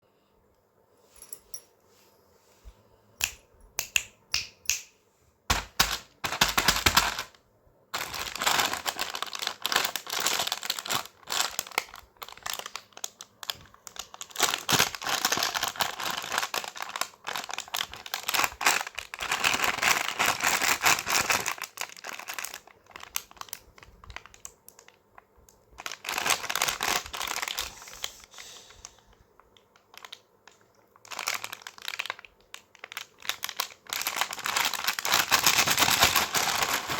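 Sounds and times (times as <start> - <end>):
snack packet crinkling: 5.5 - 7.4, 8.0 - 28.3, 28.9 - 36.9.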